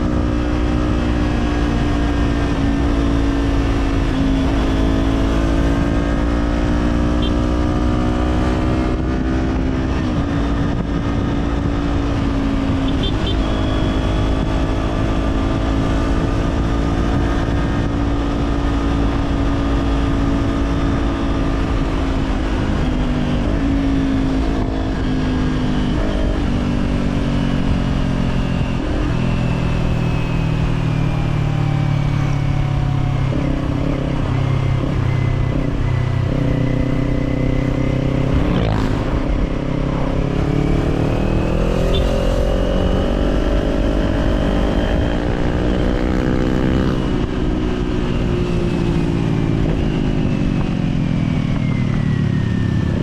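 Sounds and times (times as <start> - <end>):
low wind rumble: 0.0 - 53.0.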